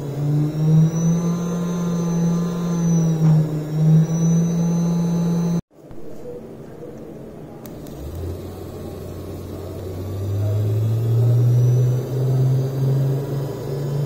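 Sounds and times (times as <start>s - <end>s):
electric motor humming and whining: 0.0s - 5.6s, 7.7s - 14.0s.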